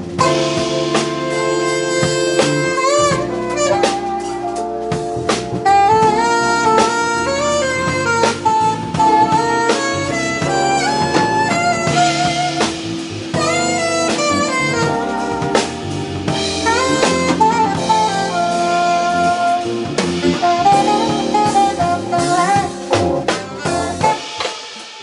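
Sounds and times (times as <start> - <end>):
saxophone melody: 0.0 - 24.7
electric bass: 0.0 - 24.8
drum kit: 0.0 - 25.0
keyboards: 0.0 - 25.0.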